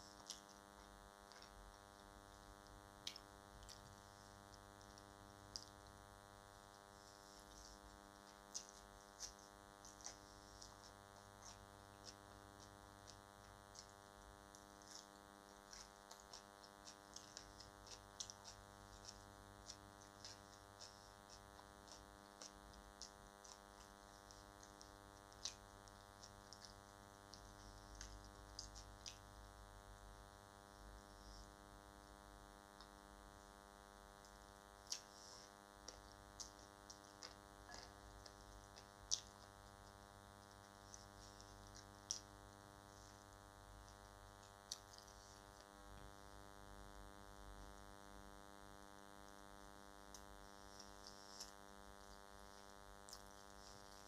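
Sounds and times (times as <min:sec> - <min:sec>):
eating and chewing by hand: 0:00.0 - 0:54.0
faint electrical hum: 0:00.0 - 0:54.0.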